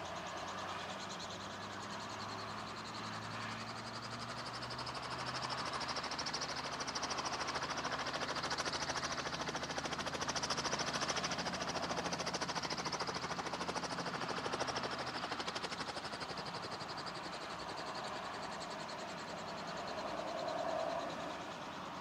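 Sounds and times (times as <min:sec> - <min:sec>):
helicopter rotor blades beating: 0:00.0 - 0:22.0.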